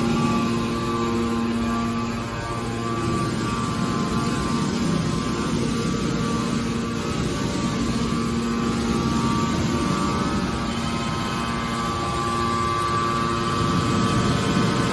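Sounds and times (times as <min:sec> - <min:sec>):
car baler machine drone: 0:00.0 - 0:14.9.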